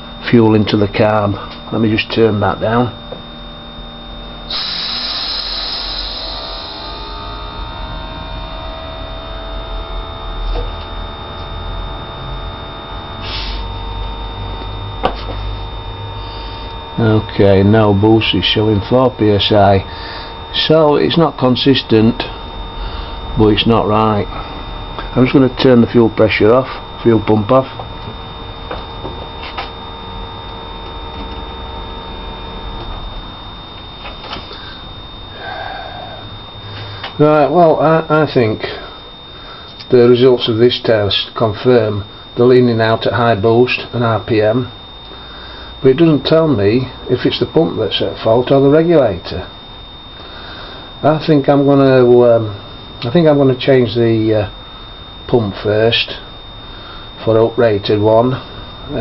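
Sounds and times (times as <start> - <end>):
electric fuel pump humming: 0.0 - 59.0.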